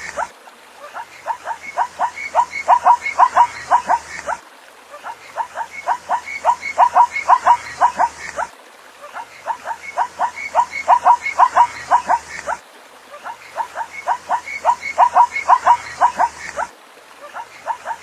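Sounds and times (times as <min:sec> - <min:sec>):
zebra yelping barks: 0:00.9 - 0:04.4, 0:05.0 - 0:12.6, 0:13.2 - 0:18.0.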